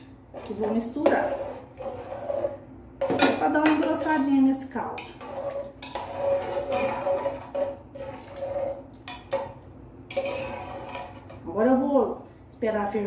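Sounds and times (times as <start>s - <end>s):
spoon stirring broth: 0.0s - 11.5s.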